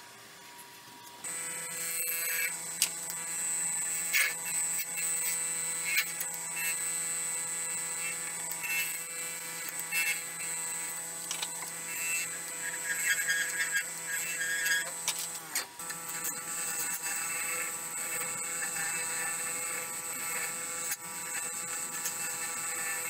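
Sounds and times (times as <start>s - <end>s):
wood lathe humming and whining: 1.2s - 23.0s.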